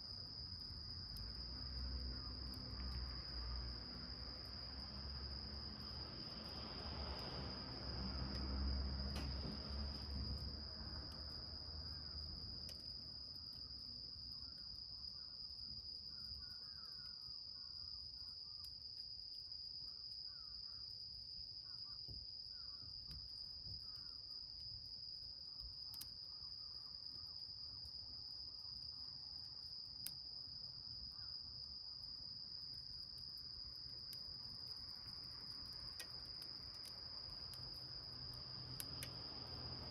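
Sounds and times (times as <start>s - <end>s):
insects trilling: 0.1s - 18.9s, 20.1s - 24.6s, 29.7s - 39.9s.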